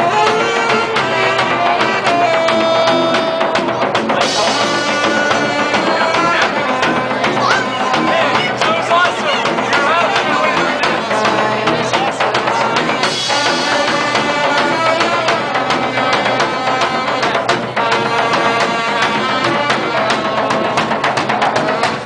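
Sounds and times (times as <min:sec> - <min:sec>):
horns holding notes: 0:00.0 - 0:22.0
steady drum beat: 0:00.0 - 0:22.0.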